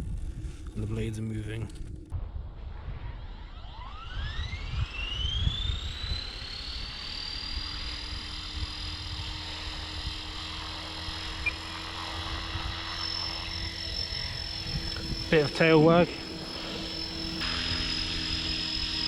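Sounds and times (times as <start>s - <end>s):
wind rumble on microphone: 0.0s - 17.4s
model helicopter motor whine: 0.0s - 19.0s.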